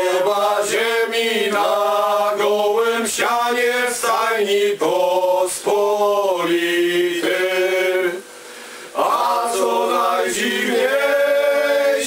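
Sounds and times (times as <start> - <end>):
men singing a carol: 0.0 - 12.0.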